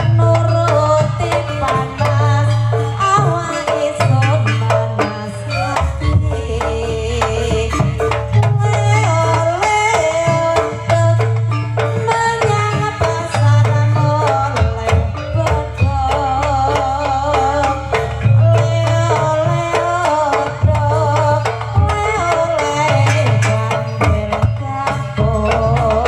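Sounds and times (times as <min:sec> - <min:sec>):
hand drum strokes: 0:00.0 - 0:26.0.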